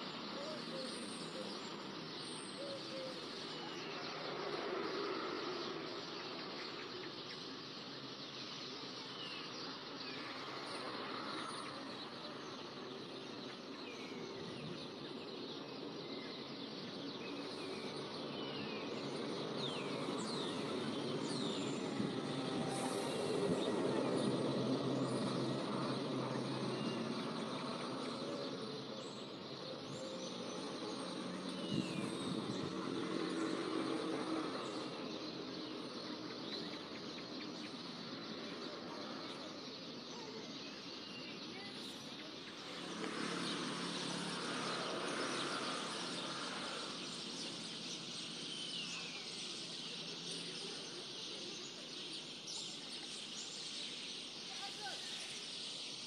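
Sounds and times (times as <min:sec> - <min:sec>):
birds chirping: 0:00.0 - 0:56.0
outdoor background noise: 0:00.0 - 0:56.0.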